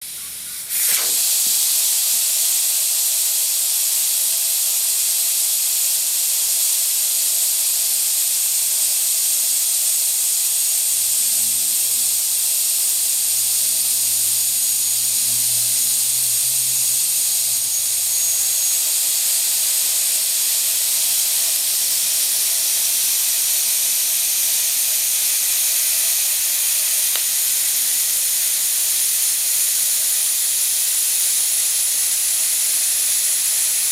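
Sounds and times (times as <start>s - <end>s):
air hissing out of tyre: 0.0s - 33.9s.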